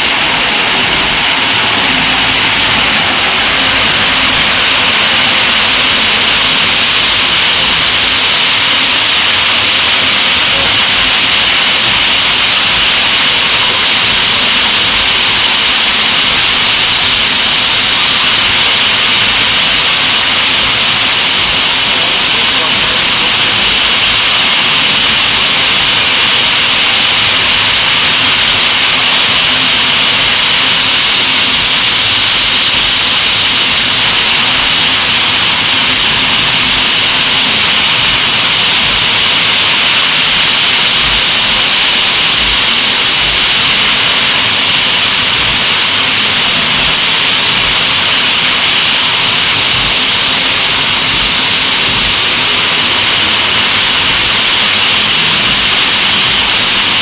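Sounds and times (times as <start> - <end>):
waterfall pouring: 0.0 - 57.0.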